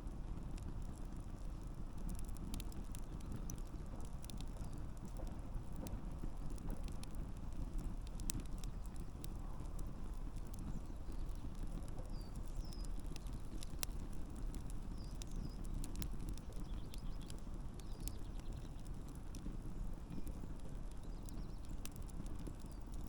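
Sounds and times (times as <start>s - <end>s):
campfire burning: 0.0s - 23.0s
logs crackling and popping: 0.0s - 23.0s.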